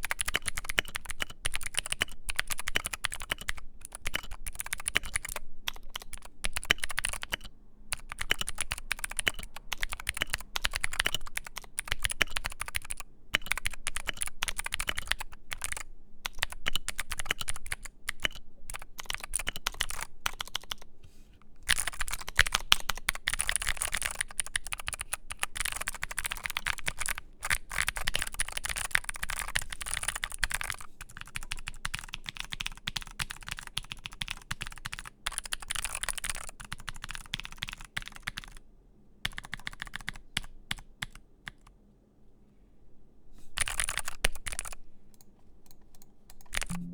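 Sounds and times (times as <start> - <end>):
typing on mechanical keyboard: 0.0 - 20.9, 21.7 - 38.6, 39.2 - 41.7, 43.6 - 46.9.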